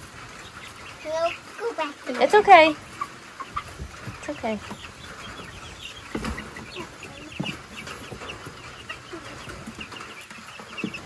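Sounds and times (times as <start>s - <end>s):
chicks peeping: 0.0s - 11.0s
hens clucking low: 0.0s - 11.0s.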